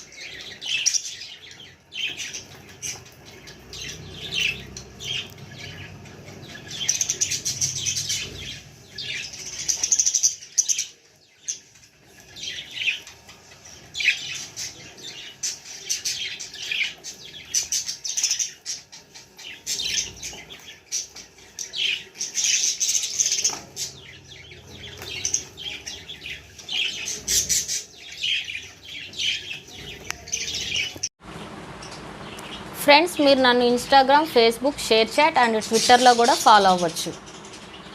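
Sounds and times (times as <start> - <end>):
budgies chirping: 0.0 - 31.1, 31.8 - 37.9.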